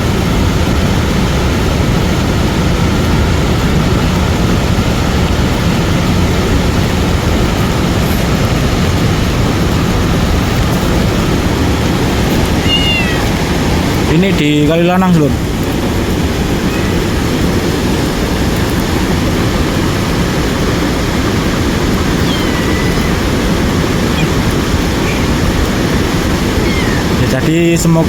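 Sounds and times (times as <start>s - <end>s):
mudflow rushing down river: 0.0s - 28.0s.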